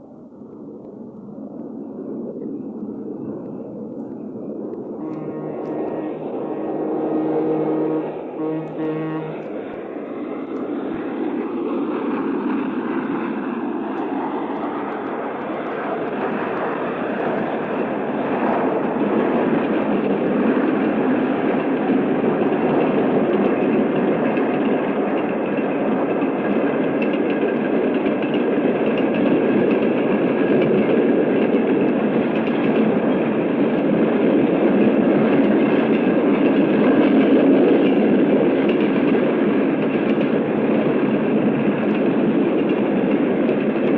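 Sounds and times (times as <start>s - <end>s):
train wheels rumbling on rail: 1.9s - 43.9s.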